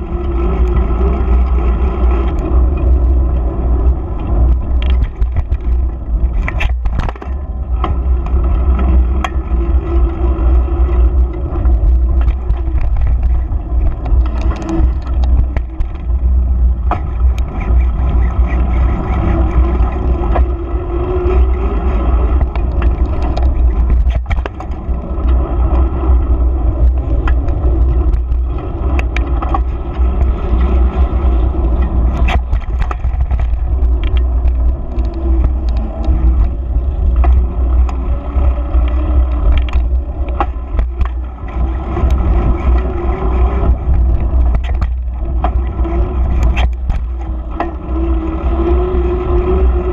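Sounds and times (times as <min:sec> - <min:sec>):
bike clicks and rattles: 0:00.0 - 0:49.9
tyres humming on asphalt: 0:00.0 - 0:49.9
wind buffeting microphone: 0:00.0 - 0:49.9.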